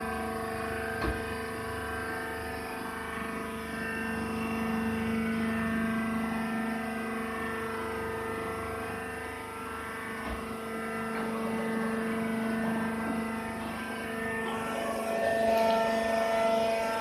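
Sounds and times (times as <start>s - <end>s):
baler press humming with a whine: 0.0s - 17.0s.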